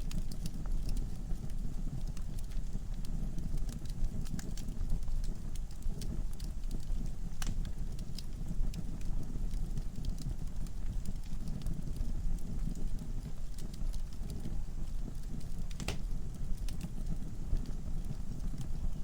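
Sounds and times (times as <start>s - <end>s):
logs burning with crackles: 0.0s - 19.0s.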